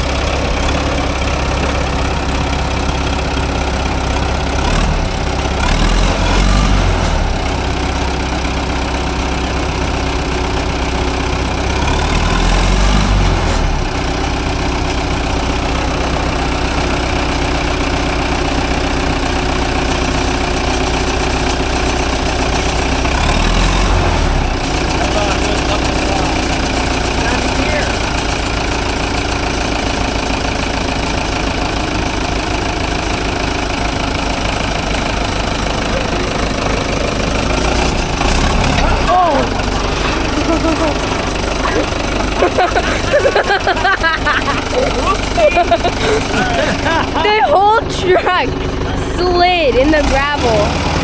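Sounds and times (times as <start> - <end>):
engine running and revving: 0.0 - 51.0.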